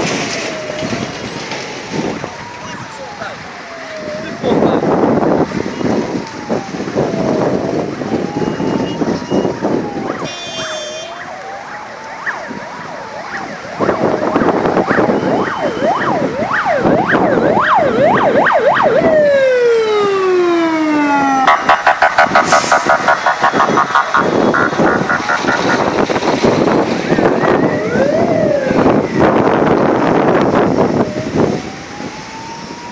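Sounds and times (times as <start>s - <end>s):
emergency vehicle siren: 0.0s - 32.9s.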